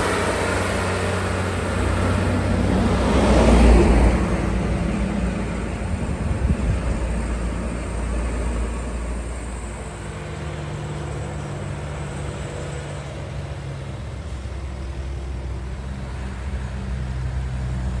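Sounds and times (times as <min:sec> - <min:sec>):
road noise: 0:00.0 - 0:18.0
truck diesel engine running: 0:00.0 - 0:18.0.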